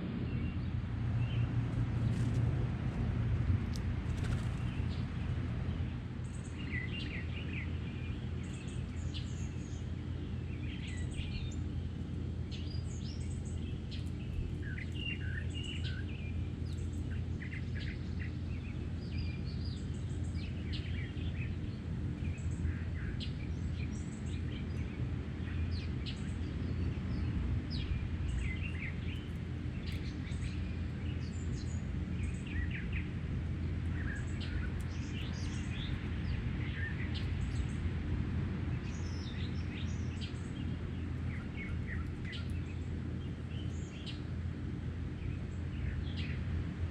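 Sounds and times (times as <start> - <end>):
small songbirds chirping: 0.0 - 46.9
steady low rumble: 0.0 - 46.9.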